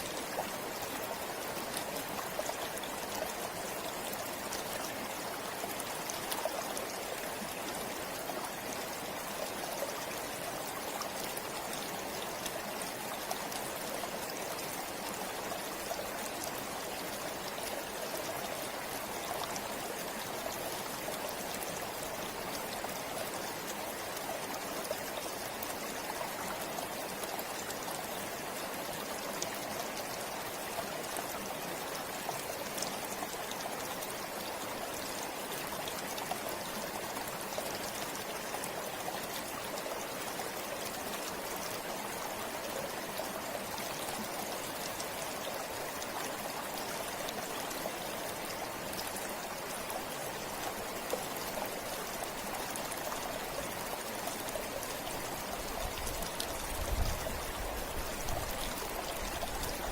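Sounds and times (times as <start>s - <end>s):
river flowing: 0.0s - 59.9s
water splashes and trickles: 0.0s - 59.9s.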